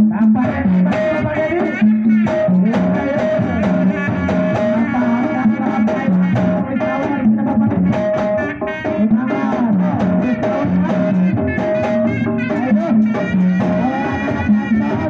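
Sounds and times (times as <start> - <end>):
bending melody line: 0.0 - 15.0
drums beating steady pattern: 0.0 - 15.0.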